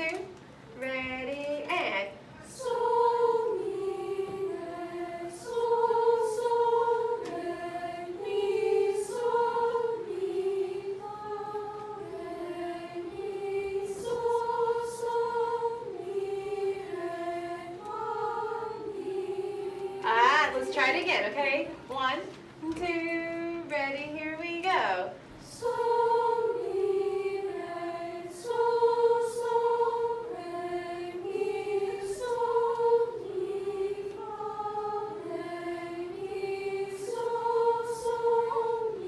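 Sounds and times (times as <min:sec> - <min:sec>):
choir singing scale exercise: 0:00.0 - 0:39.0.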